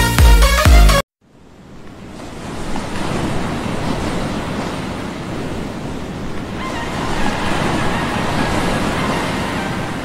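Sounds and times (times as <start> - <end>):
rushing surf-like noise: 1.3 - 10.0.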